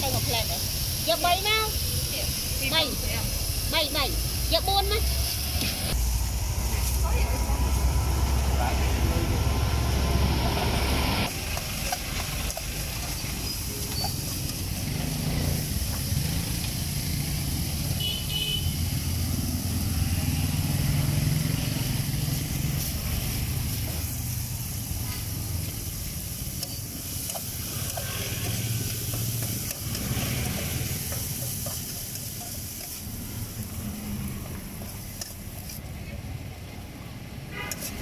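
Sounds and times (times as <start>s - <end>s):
street traffic engine rumble: 0.0s - 38.0s.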